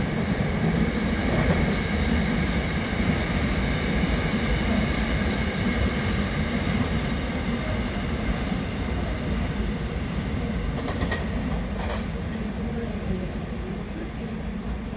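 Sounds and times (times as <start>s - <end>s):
train wheels rumbling on track: 0.0s - 14.9s.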